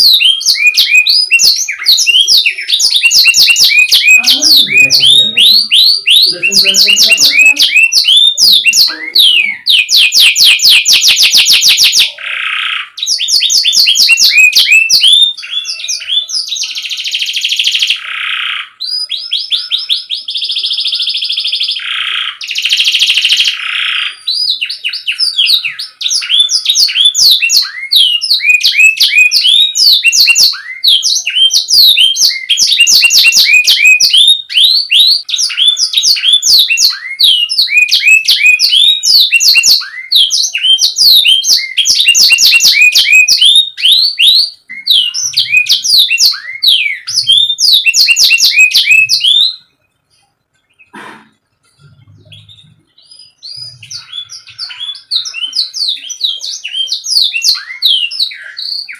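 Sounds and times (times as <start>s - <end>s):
canary singing: 0.0s - 58.9s.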